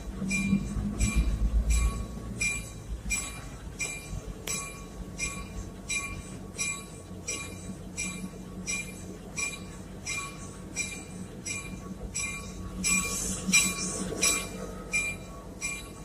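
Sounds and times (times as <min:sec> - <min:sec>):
railroad bell ringing: 0:00.0 - 0:16.0
train low rumble: 0:00.0 - 0:16.0.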